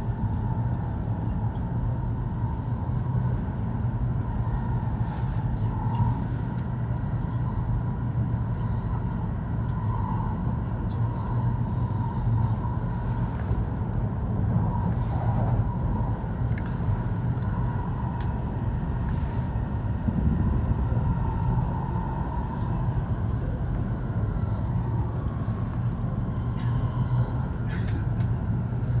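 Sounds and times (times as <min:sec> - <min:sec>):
faint steady hum: 0:00.0 - 0:29.0
train cabin low rumble: 0:00.0 - 0:29.0.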